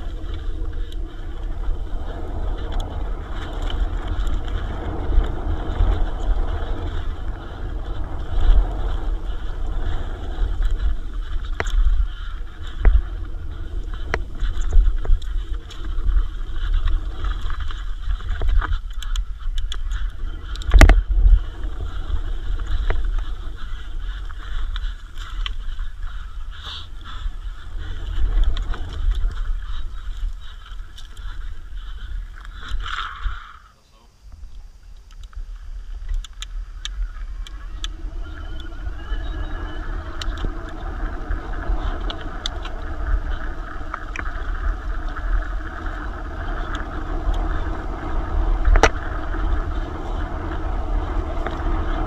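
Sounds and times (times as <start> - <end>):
bike tyre noise on dirt: 0.0 - 52.0
wind rumbling on microphone: 0.0 - 52.0.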